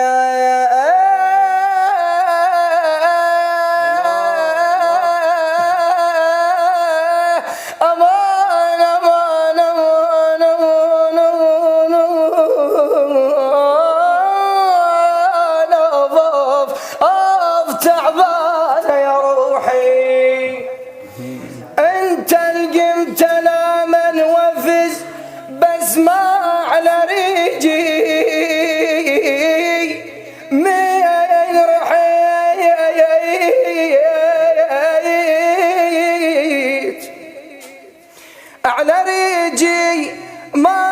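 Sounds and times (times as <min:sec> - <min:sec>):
man singing a slow chant: 0:00.0 - 0:40.9.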